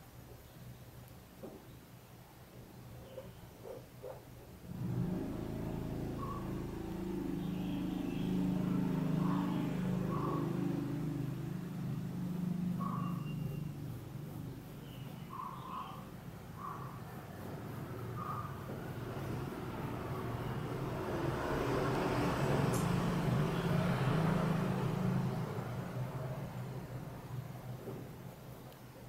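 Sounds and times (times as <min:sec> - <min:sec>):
motor vehicle engine running: 0:04.6 - 0:29.0.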